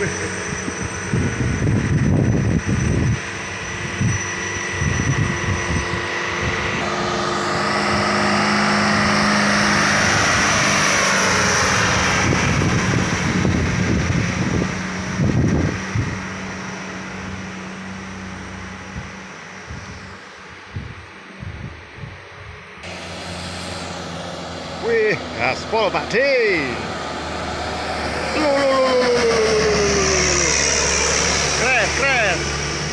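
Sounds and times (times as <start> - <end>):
truck diesel engine pulling hard: 0.0 - 22.0, 22.7 - 32.9.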